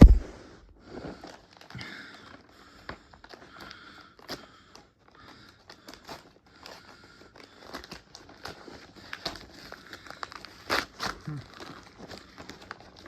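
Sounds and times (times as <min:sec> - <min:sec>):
packaging crinkling and tearing: 0:01.0 - 0:13.0.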